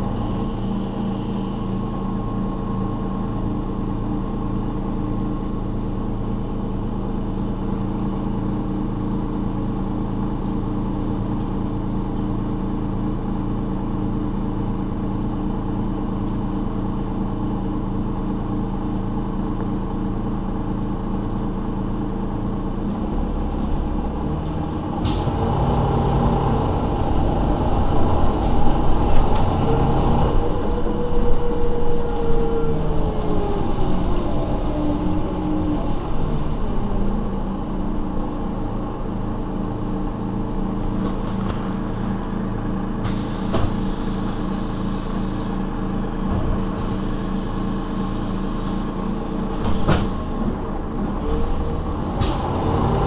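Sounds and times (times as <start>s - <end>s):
bus engine running: 0.0s - 53.0s.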